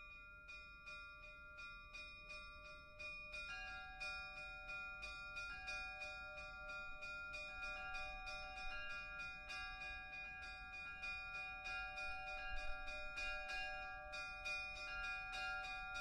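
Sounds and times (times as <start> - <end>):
faint bells chiming: 0.0 - 16.0
higher-pitched bells: 0.0 - 16.0.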